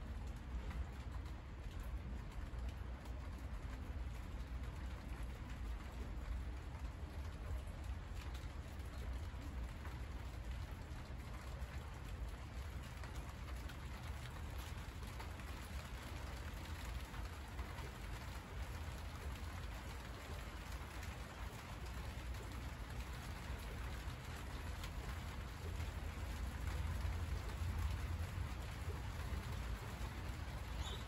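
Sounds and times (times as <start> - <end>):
rain pattering on leaves: 0.0 - 31.0.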